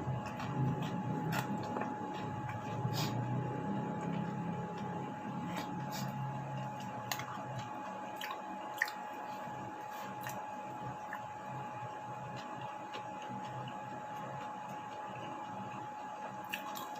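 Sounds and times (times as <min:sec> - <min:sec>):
person chewing food: 0:00.0 - 0:16.9.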